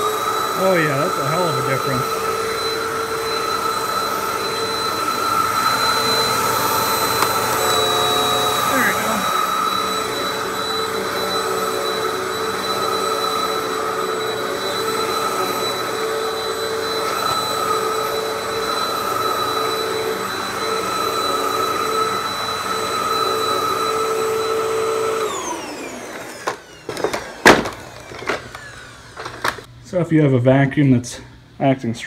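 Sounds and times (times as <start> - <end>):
upright vacuum running: 0.0 - 29.7
vacuum motor winding down: 0.0 - 29.7.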